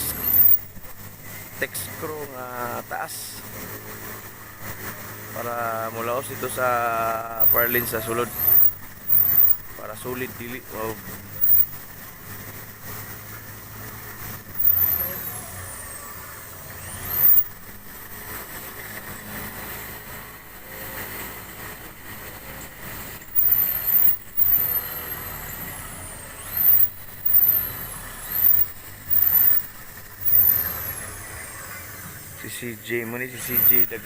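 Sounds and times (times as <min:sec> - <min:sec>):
power drill whining: 0:00.0 - 0:01.0, 0:06.4 - 0:34.0.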